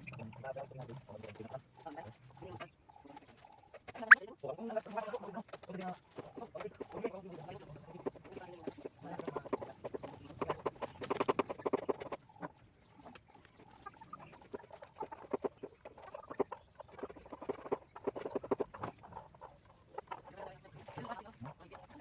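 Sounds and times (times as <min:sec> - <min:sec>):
poultry clucking: 0:00.0 - 0:22.0.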